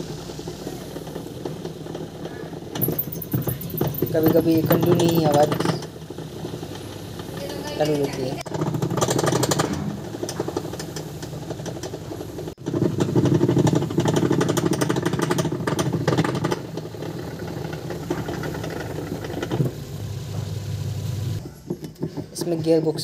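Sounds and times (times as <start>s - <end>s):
washing machine motor running: 0.0s - 21.4s
rapid knocking rattle: 0.4s - 19.7s.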